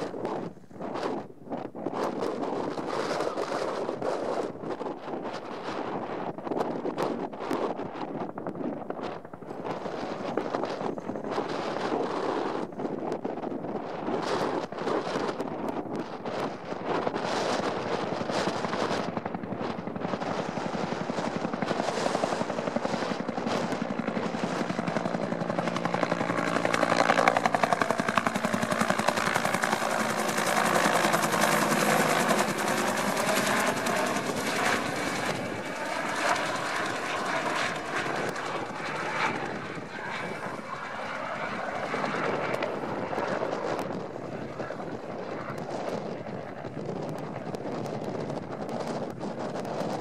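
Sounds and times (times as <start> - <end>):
helicopter rotor beating: 0.0 - 50.0.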